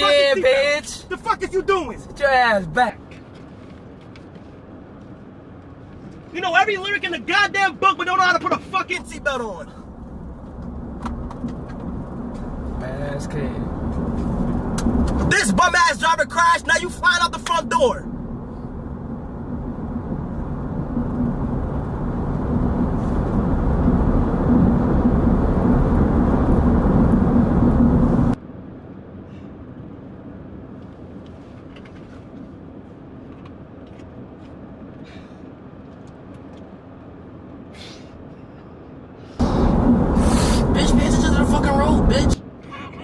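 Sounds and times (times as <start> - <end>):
car cabin engine and road rumble: 0.0 - 43.0.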